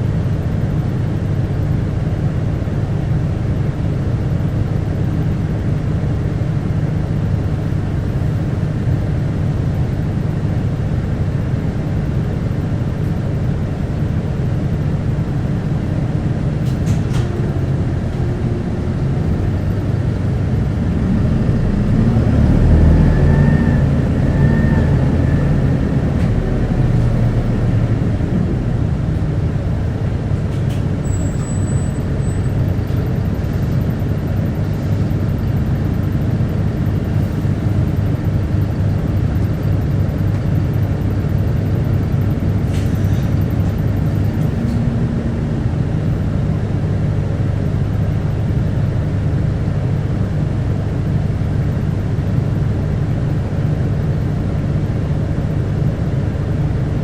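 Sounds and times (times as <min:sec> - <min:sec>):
bus diesel engine drone: 0:00.0 - 0:57.0
road noise: 0:00.3 - 0:57.0.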